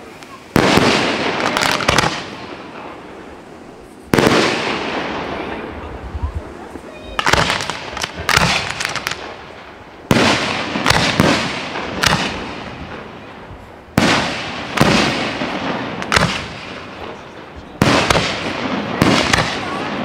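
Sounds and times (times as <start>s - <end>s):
firework shells bursting: 0.0s - 5.1s, 7.2s - 19.7s.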